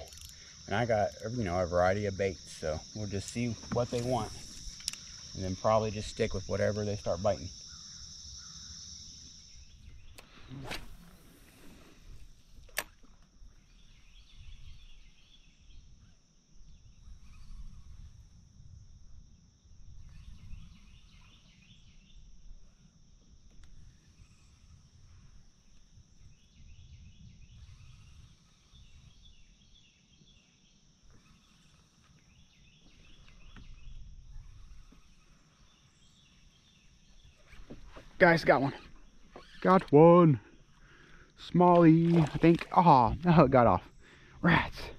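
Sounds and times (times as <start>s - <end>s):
high insect drone: 0.0s - 44.9s
insect chirping: 0.0s - 44.9s.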